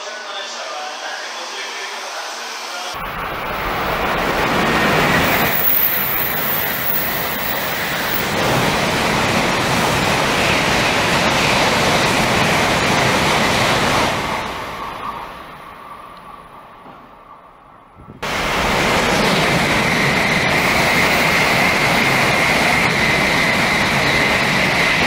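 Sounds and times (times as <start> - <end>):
bullet train rushing past: 0.0 - 25.0.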